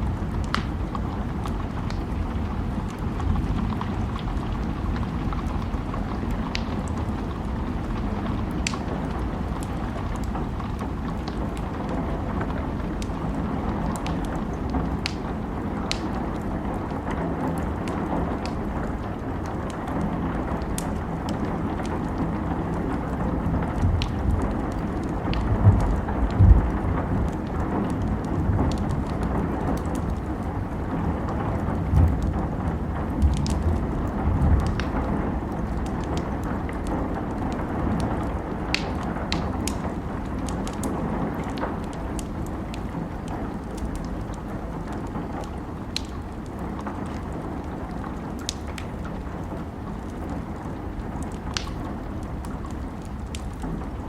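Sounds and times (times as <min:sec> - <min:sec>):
steady rain hiss: 0:00.0 - 0:54.0
wood fire crackling: 0:00.0 - 0:54.0.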